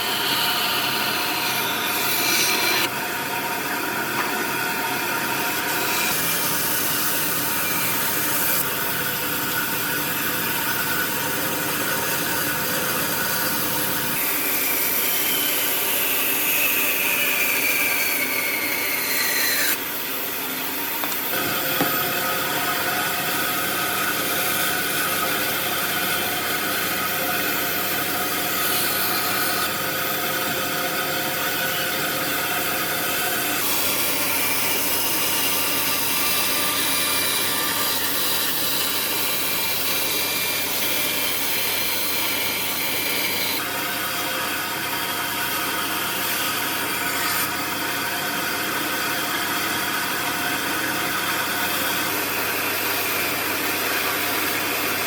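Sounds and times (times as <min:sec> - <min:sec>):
power tools cutting wood: 0:00.0 - 0:04.2, 0:05.2 - 0:08.9, 0:11.6 - 0:49.0.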